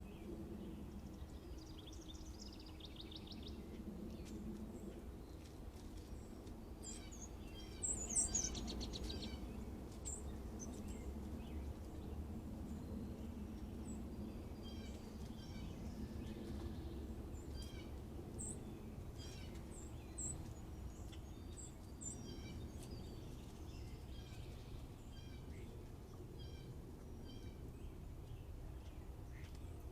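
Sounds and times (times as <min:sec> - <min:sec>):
low background rumble: 0:00.0 - 0:29.9
small birds chirping and singing: 0:00.0 - 0:29.9.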